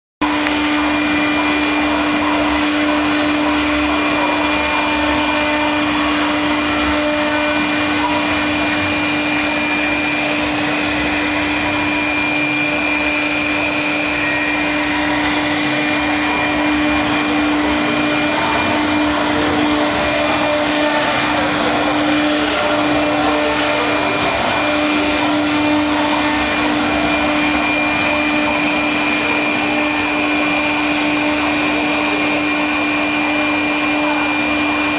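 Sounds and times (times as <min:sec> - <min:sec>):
cnc router rushing noise: 0:00.2 - 0:34.9
steady single-pitched hum: 0:00.2 - 0:34.9.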